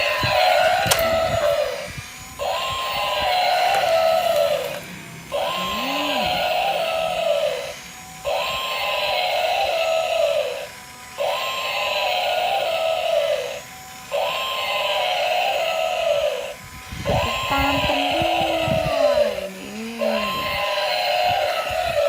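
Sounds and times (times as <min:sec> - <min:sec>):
toy electronic animal call: 0:00.0 - 0:22.0.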